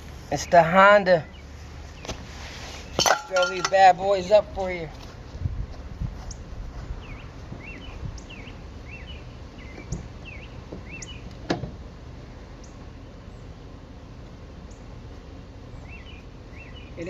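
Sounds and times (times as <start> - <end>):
small birds chirping: 0.0 - 4.9, 6.1 - 17.0.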